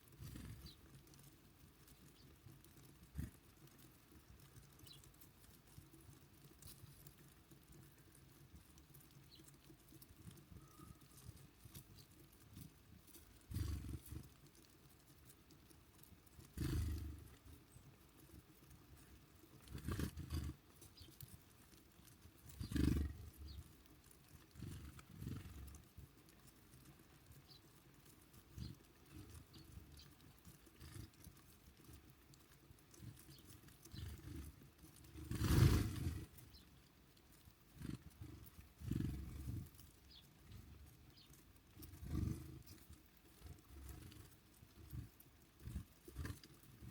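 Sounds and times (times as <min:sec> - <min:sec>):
birds thumping and fluttering: 0:00.0 - 0:36.8, 0:37.4 - 0:46.9
faint outdoor background: 0:00.0 - 0:46.9.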